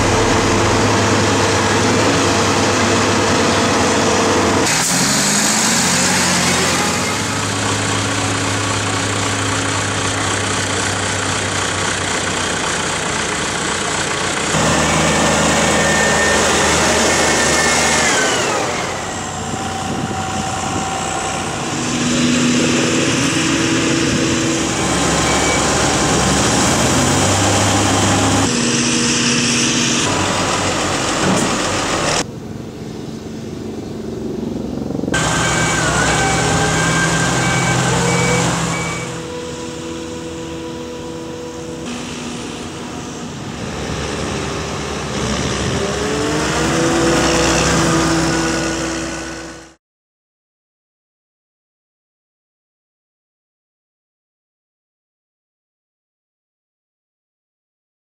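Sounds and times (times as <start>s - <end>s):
engine revving: 0.0s - 32.3s, 33.5s - 49.8s
diesel engines under load: 0.0s - 49.8s.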